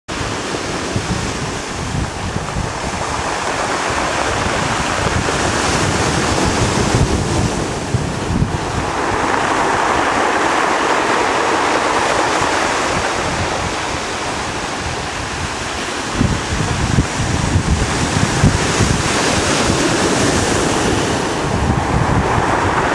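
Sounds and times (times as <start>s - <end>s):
wind rumbling on microphone: 0.1s - 22.9s
waves breaking on pebble beach: 0.2s - 22.9s.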